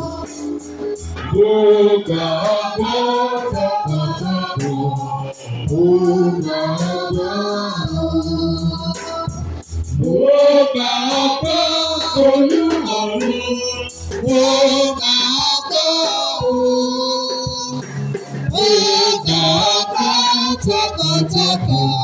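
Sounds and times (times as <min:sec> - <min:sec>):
choir singing: 0:01.3 - 0:09.4, 0:10.0 - 0:17.9, 0:18.5 - 0:22.0.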